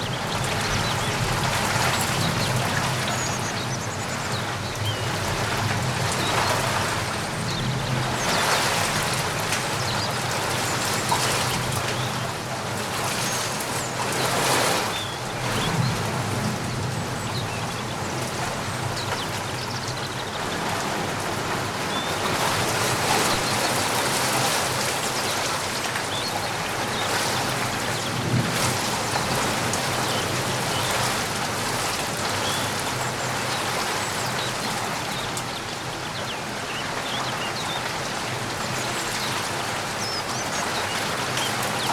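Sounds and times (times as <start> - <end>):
raindrops striking surfaces: 0.0 - 41.9
steady rain: 0.0 - 41.9.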